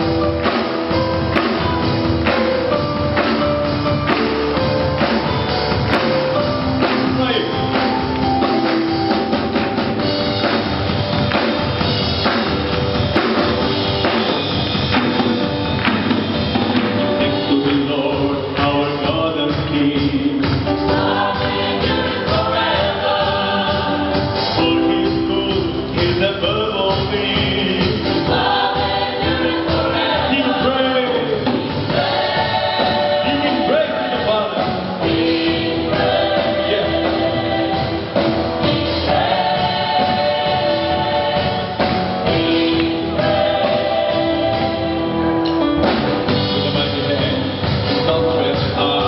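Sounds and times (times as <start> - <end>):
band playing: 0.0 - 49.0
gospel choir singing: 0.0 - 49.0
steady drum beat: 0.0 - 49.0.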